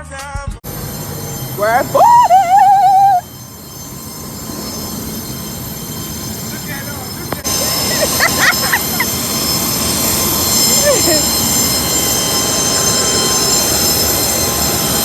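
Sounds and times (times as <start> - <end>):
high whining tones: 0.6 - 15.0
loud mechanical roar: 0.6 - 15.0.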